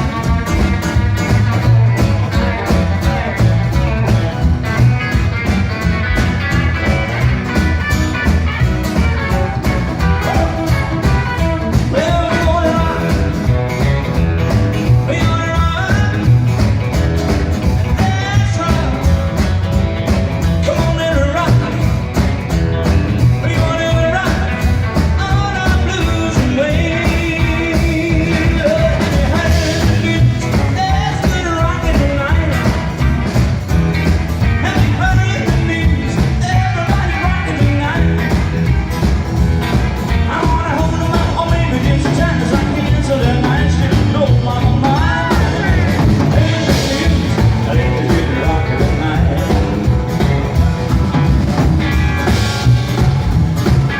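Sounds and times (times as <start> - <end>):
live rockabilly band playing: 0.0 - 53.9.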